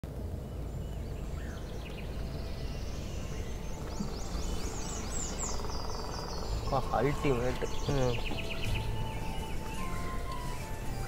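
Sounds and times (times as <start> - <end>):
low outdoor rumble: 0.0 - 11.0
bird chirping: 0.2 - 11.0.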